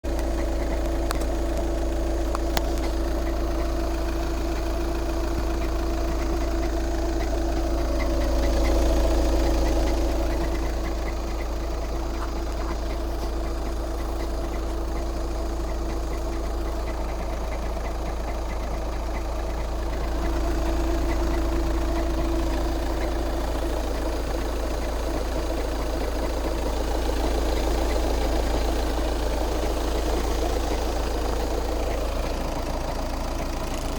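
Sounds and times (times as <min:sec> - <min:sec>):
diesel engine idling with knock: 0:00.0 - 0:33.9.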